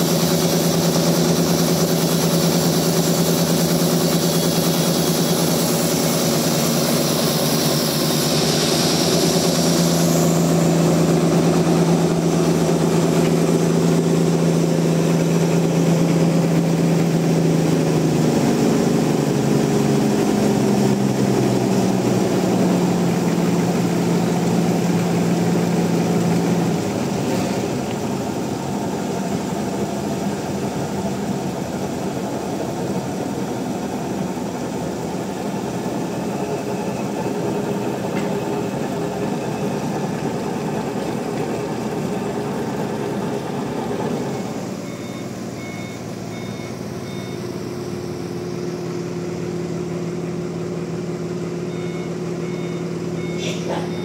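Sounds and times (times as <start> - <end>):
large engine running: 0.0 - 54.0.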